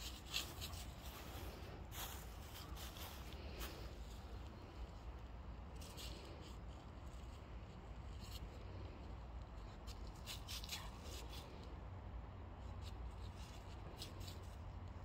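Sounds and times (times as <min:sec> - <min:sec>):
dog paws scratching soil: 0:00.0 - 0:11.8, 0:12.6 - 0:15.0.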